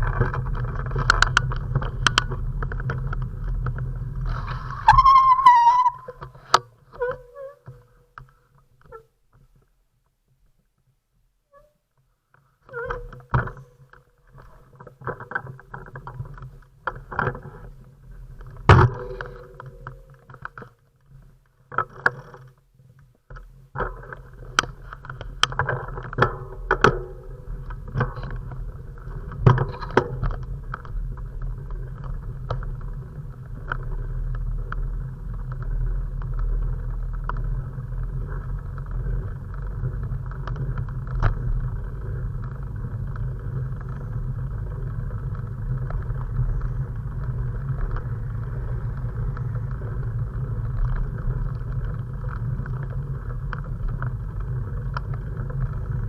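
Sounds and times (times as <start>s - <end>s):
rattles and clicks: 0.0s - 9.0s, 12.3s - 56.0s
low rumble of riding: 0.0s - 9.3s, 12.7s - 56.0s.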